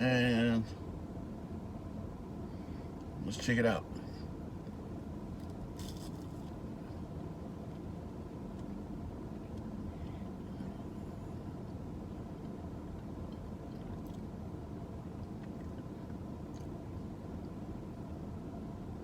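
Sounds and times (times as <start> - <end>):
low engine-like rumble: 0.0 - 19.0.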